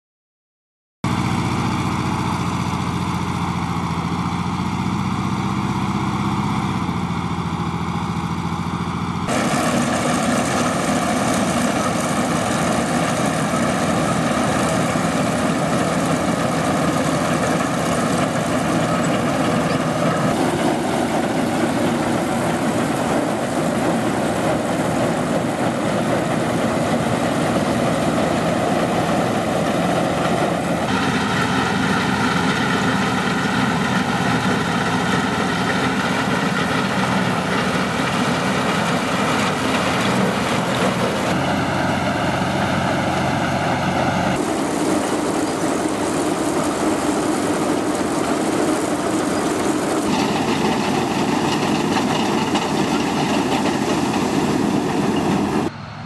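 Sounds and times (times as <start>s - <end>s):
combine harvester engine droning: 1.0s - 56.0s
threshing machinery clatter: 8.8s - 55.7s.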